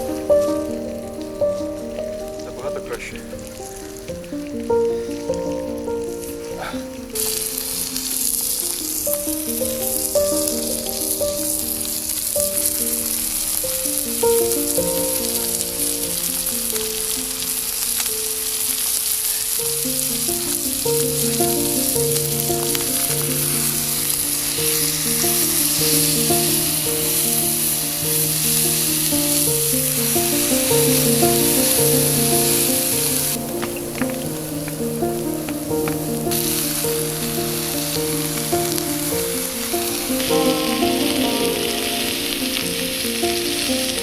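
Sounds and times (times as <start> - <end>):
background music melody: 0.0 - 44.0
food sizzling in a pan: 0.0 - 44.0.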